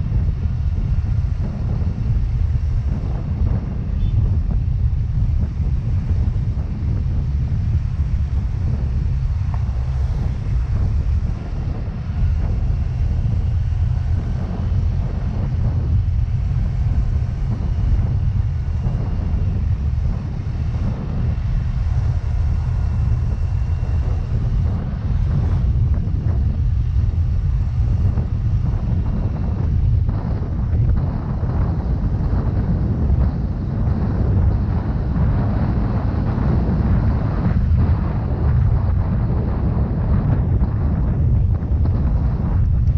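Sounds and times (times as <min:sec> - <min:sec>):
road noise: 0:00.0 - 0:42.9
wind buffeting microphone: 0:00.0 - 0:42.9.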